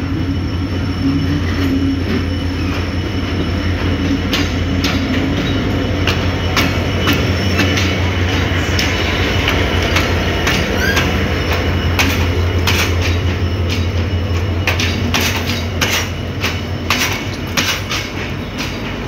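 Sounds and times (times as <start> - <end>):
diesel locomotive engine hum: 0.0 - 19.0
train wheels clacking over rail joints: 1.4 - 19.0.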